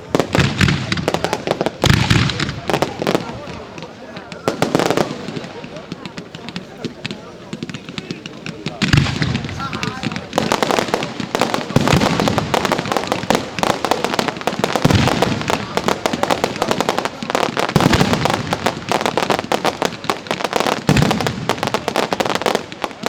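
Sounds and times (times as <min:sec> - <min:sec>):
deep fireworks booms: 0:00.0 - 0:23.0
fireworks bangs and crackles: 0:00.0 - 0:23.0.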